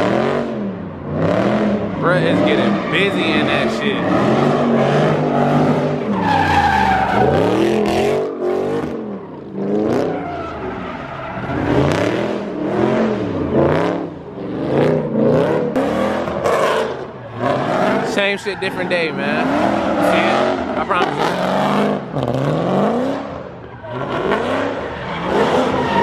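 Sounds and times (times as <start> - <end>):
car engine revving: 0.0 - 26.0
tires screeching: 0.0 - 26.0.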